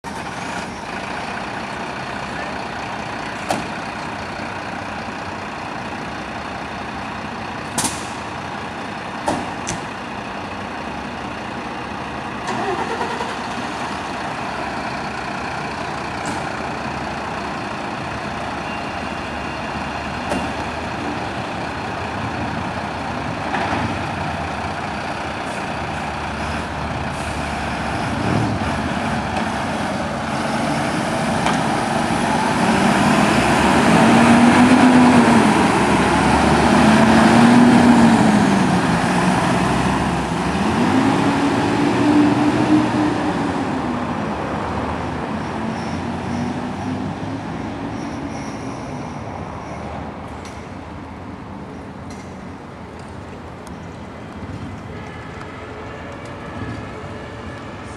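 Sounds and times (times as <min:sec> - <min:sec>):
diesel truck engines revving: 0:00.0 - 0:55.4.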